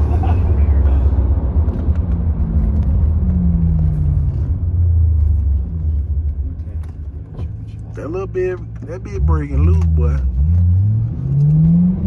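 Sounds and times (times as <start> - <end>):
car engine droning in cabin: 0.0 - 12.0.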